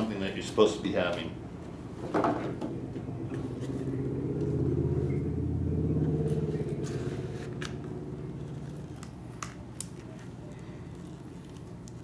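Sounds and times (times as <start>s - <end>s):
low motor rumble: 1.3s - 12.0s.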